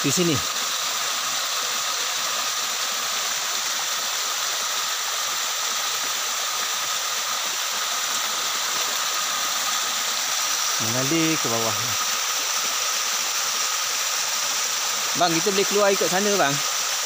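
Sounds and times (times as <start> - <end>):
waterfall splashing over rocks: 0.0 - 17.0.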